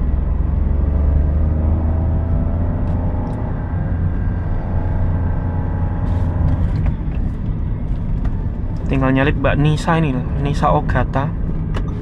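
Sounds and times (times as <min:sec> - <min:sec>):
car engine pulling uphill: 0:00.0 - 0:12.0
low road rumble: 0:00.0 - 0:12.0.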